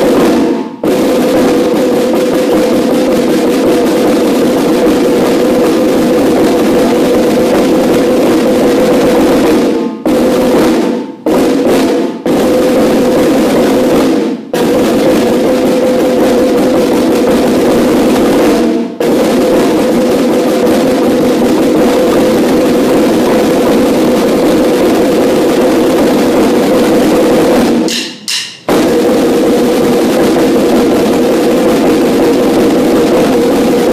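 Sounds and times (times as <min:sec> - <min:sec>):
marching snare drums: 0:00.0 - 0:33.9.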